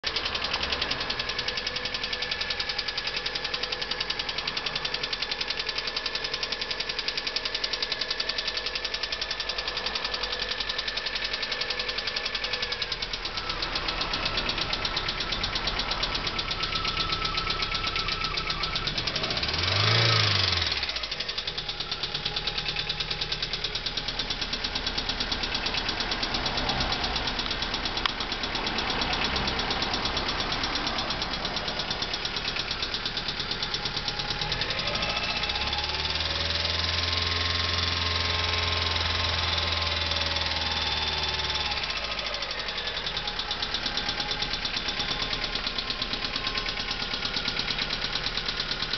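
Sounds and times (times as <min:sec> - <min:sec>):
car engine idling with ticking knock: 0:00.0 - 0:48.9.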